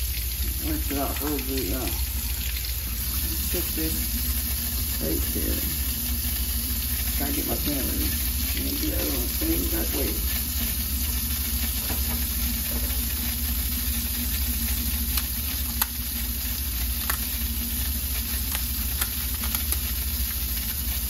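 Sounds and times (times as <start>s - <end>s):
low steady hum: 0.0s - 21.0s
tap water running into sink: 0.0s - 21.0s.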